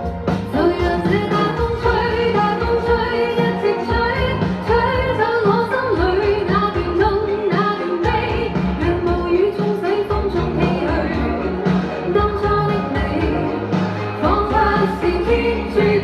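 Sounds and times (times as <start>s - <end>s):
pop song with steady beat: 0.0s - 16.0s.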